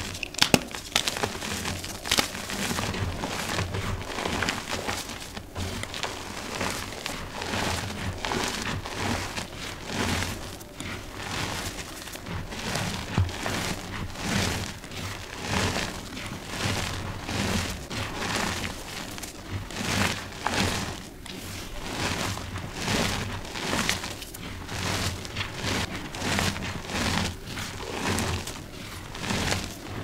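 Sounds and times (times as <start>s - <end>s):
chalk crunching between hands: 0.0s - 30.0s.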